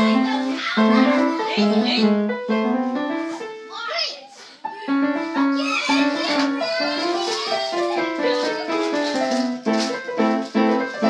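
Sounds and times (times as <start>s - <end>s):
upright piano playing: 0.0s - 11.0s.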